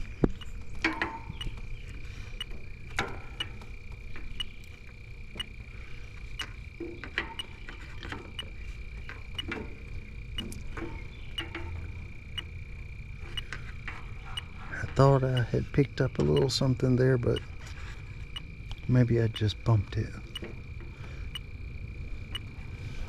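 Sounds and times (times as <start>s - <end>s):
leak detector ticking: 0.0s - 13.7s, 15.2s - 17.6s, 18.2s - 22.6s.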